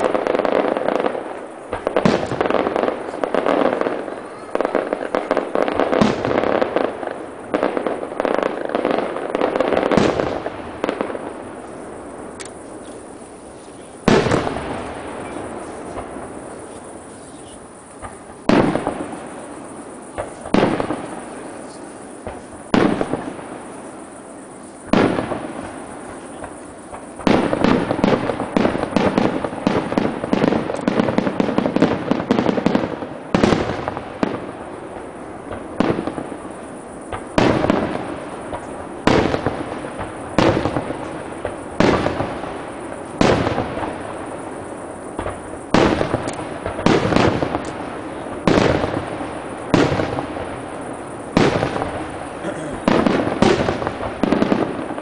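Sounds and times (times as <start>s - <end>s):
firework crackle: 0.0s - 55.0s.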